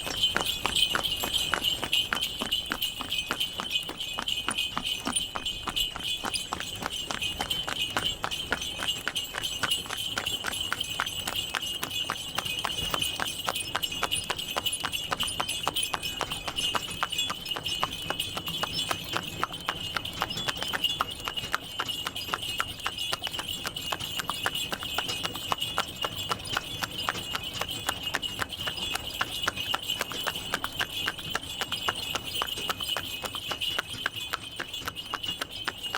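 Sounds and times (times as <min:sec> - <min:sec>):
horse hooves clip-clopping: 0:00.0 - 0:35.9.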